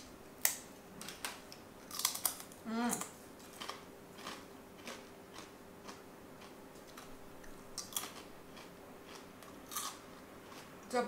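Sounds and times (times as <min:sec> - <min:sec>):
crisp food crunching: 0:01.8 - 0:10.7.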